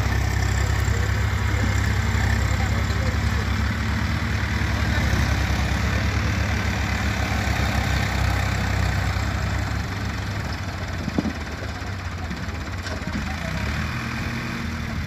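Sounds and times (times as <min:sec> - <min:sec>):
tractor diesel engine chugging: 0:00.0 - 0:15.0.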